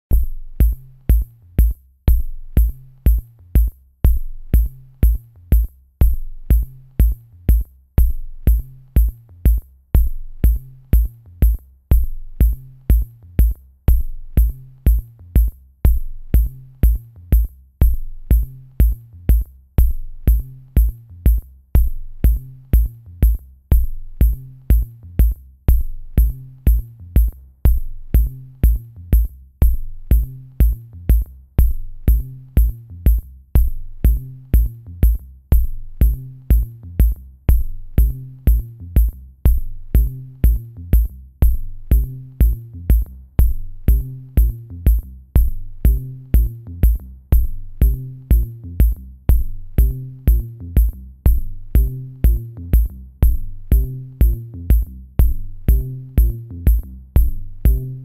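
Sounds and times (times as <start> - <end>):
electronic drum machine beat: 0.1 - 58.0.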